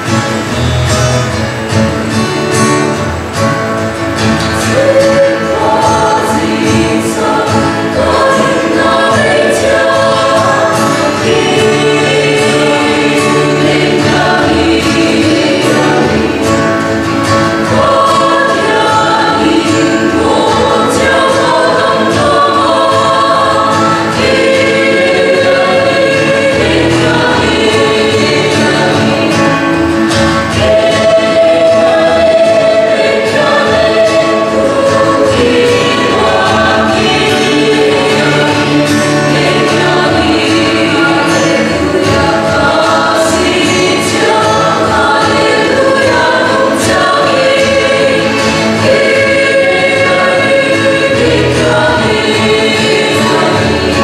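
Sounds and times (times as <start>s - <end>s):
acoustic guitar: 0.0s - 54.0s
choir singing a hymn: 0.0s - 54.0s.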